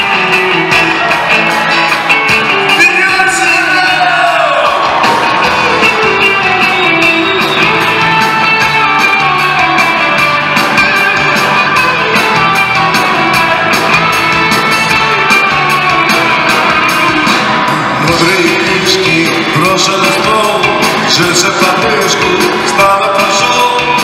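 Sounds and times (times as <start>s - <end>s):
electric guitar: 0.0s - 24.0s
steady drum beat: 0.0s - 24.0s.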